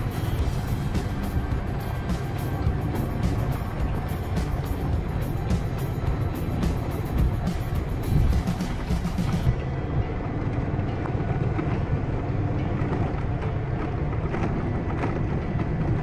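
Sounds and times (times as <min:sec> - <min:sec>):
vehicle driving on dirt road: 0:00.0 - 0:16.0.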